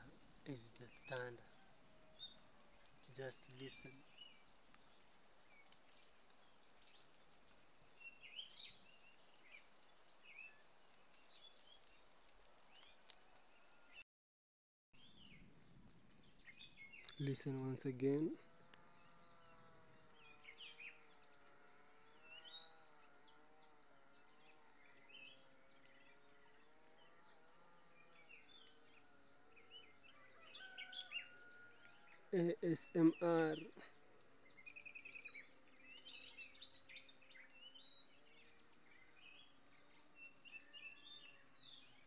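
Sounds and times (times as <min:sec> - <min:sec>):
birds chirping: 0:00.0 - 0:14.0, 0:15.0 - 0:42.0.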